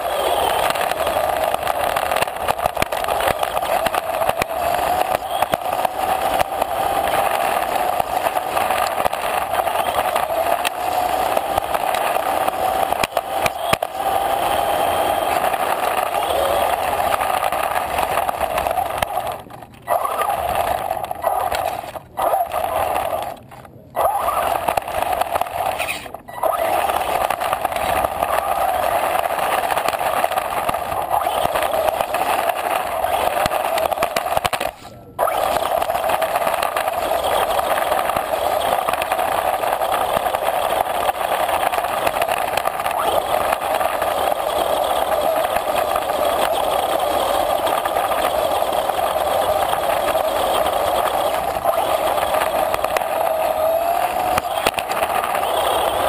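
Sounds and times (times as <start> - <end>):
rc car motor running: 0.0 - 56.0
tyres rolling over rough pavement: 0.0 - 56.0.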